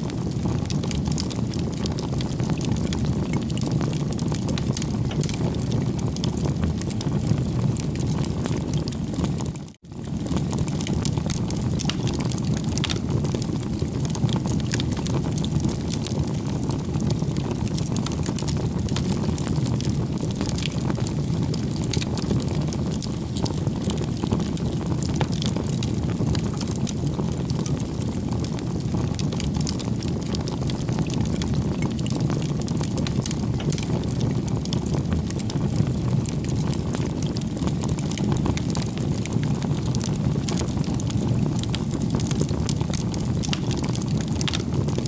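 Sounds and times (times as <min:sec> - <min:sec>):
burning wood crackling and popping: 0:00.0 - 0:45.0
fire roaring: 0:00.0 - 0:45.0.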